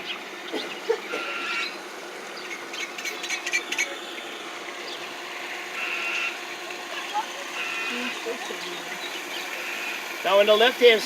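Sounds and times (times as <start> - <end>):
birds calling: 0.0 - 11.0
boat noise: 0.0 - 11.0
water: 0.0 - 11.0.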